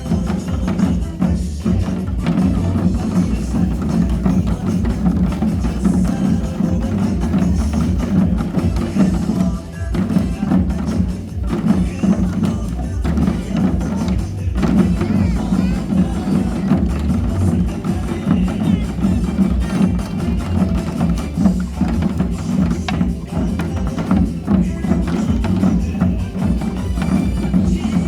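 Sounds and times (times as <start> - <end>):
percussion ensemble drumming: 0.0 - 28.0.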